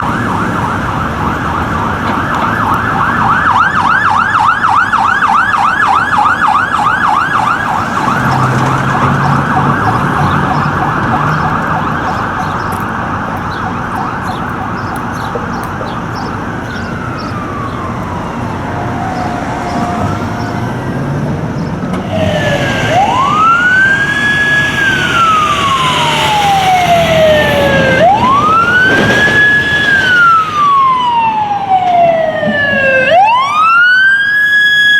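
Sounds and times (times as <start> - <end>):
fire engine siren: 0.0 - 34.9.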